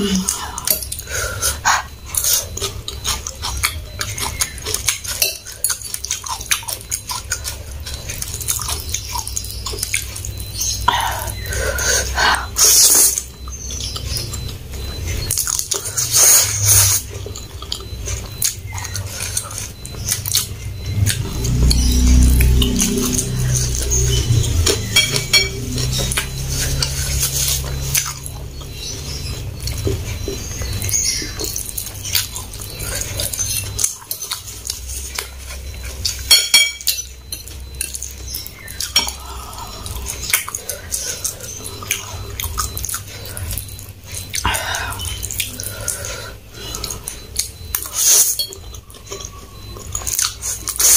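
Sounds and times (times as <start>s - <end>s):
wet chewing: 0.0s - 50.9s.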